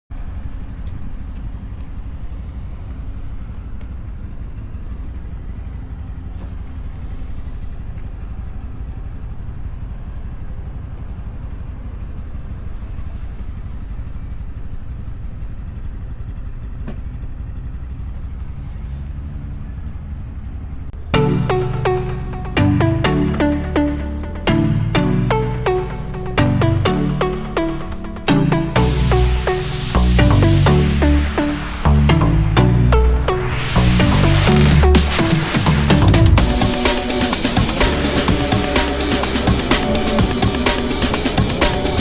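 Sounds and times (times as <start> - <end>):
motorcycle engine rumbling: 0.1 - 42.0.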